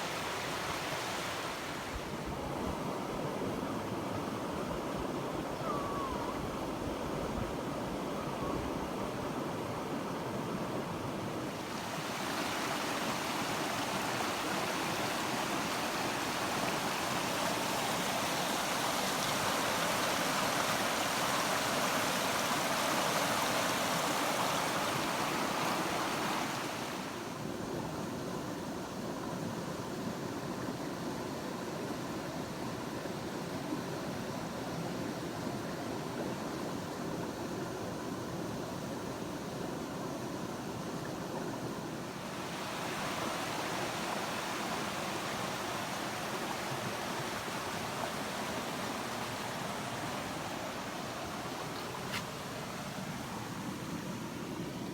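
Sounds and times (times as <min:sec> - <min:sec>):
rushing stream water: 0:00.0 - 0:54.9.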